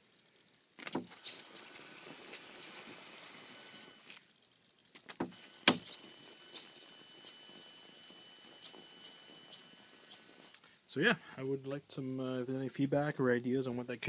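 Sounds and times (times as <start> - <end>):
servo clicks and buzzes: 0.0 - 12.2.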